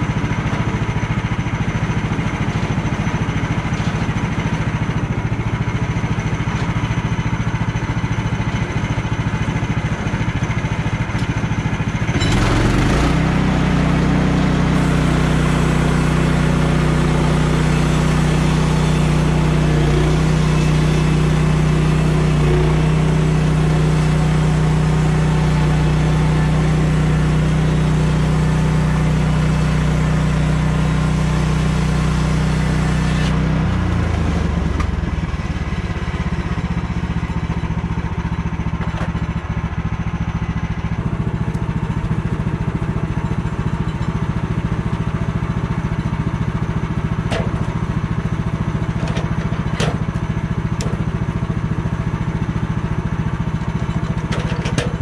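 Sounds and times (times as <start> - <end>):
sawmill engine running and idling: 0.0 - 55.0.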